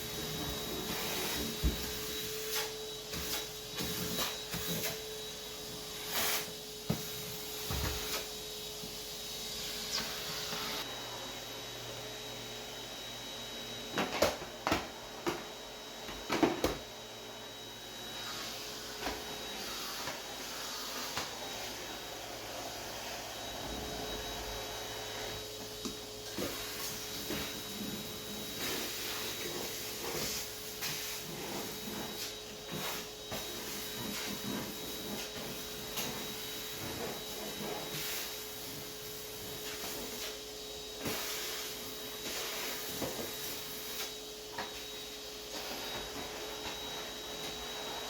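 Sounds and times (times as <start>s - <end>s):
vacuum cleaner running: 0.0s - 48.0s.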